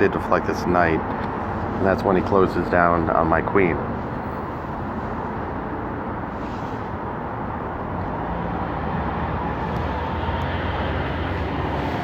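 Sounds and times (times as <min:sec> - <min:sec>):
traffic noise: 0:00.0 - 0:12.0
vehicle engine humming: 0:00.0 - 0:12.0.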